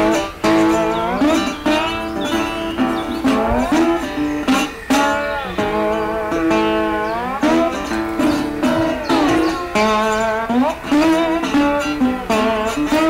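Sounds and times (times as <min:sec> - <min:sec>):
plucked-string tune with sliding notes: 0:00.0 - 0:13.0.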